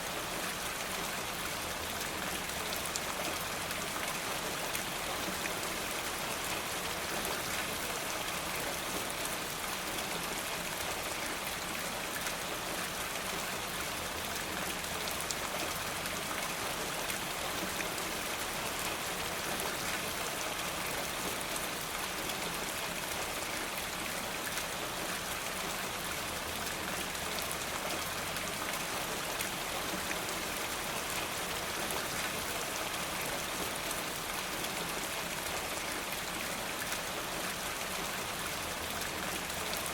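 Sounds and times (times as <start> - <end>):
rain falling through trees: 0.0 - 39.9.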